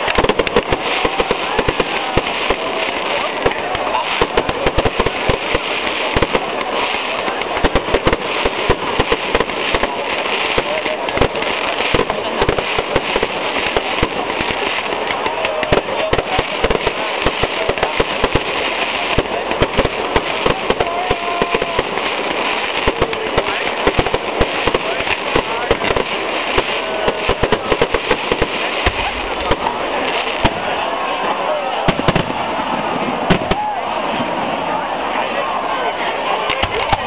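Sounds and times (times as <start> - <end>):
crowd talking: 0.0 - 37.0
fireworks bangs and crackling: 0.0 - 37.0.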